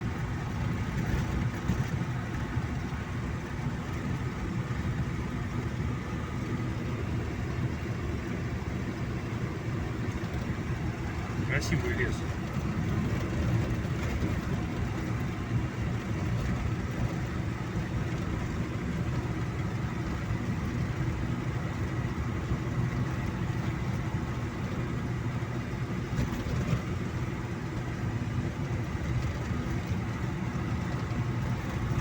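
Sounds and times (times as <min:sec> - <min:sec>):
car engine hum: 0:00.0 - 0:32.0.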